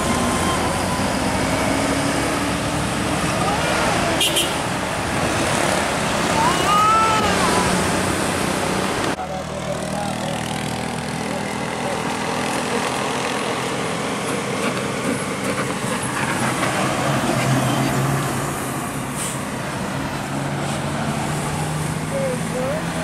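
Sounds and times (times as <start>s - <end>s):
bus passing: 0.0s - 23.0s
diesel truck passing: 0.0s - 23.0s
tyre and traffic noise: 0.0s - 23.0s.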